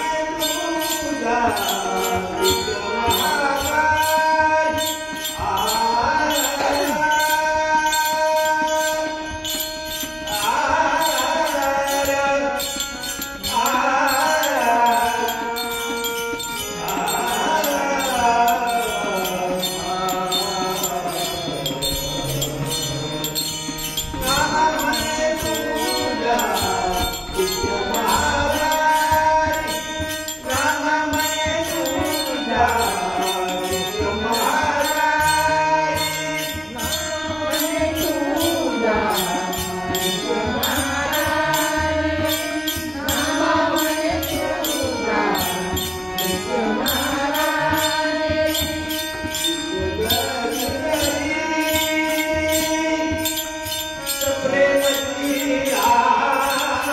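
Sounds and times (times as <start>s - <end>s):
hand cymbals beat: 0.0s - 56.9s
man singing devotional song: 0.0s - 56.9s.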